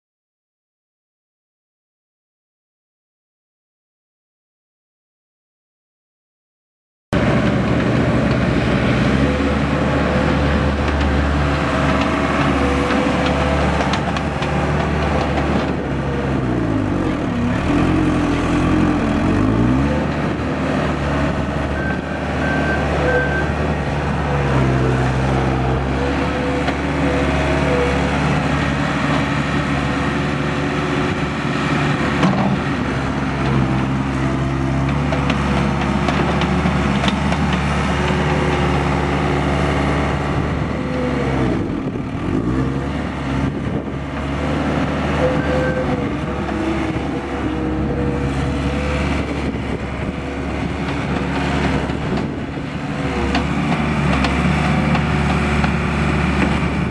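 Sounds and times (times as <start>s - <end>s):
diesel engine running: 7.2s - 56.9s.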